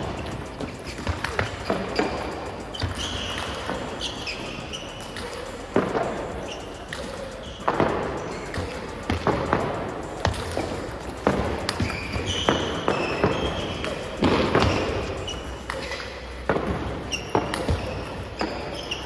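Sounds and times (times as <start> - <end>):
table tennis balls clicking: 0.0 - 19.0.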